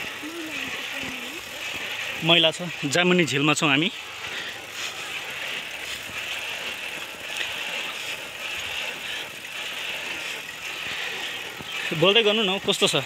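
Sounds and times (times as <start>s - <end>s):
cart frame rattling: 0.0s - 13.0s
tyres hissing on pavement: 0.0s - 13.0s.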